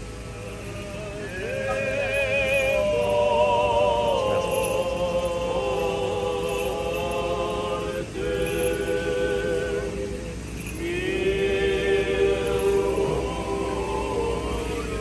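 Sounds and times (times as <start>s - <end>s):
clergy chanting in long notes: 0.0s - 15.0s.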